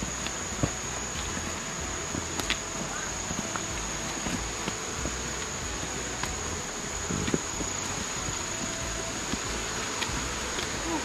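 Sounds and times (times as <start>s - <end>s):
footsteps and knocks on trail: 0.0s - 11.0s
high-pitched insect drone: 0.0s - 11.0s.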